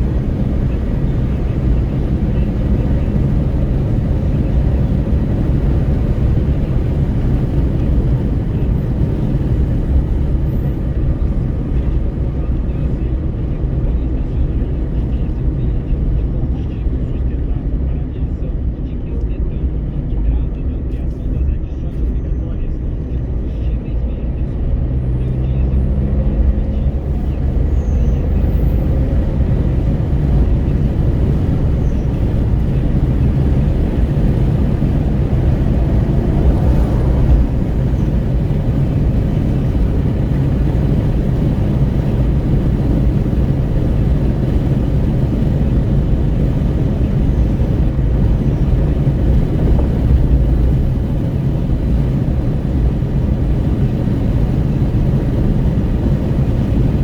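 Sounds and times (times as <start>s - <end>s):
tyre and road rumble: 0.0s - 17.0s, 24.3s - 57.0s
wind rushing at car window: 0.0s - 57.0s.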